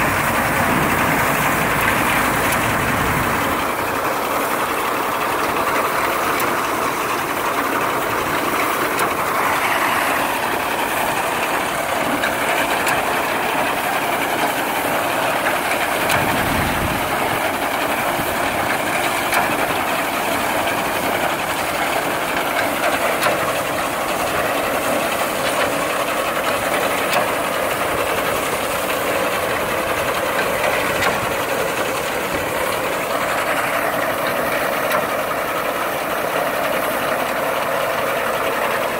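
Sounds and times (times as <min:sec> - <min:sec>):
tractor engine running: 0:00.0 - 0:38.9
machine clattering: 0:00.1 - 0:38.9.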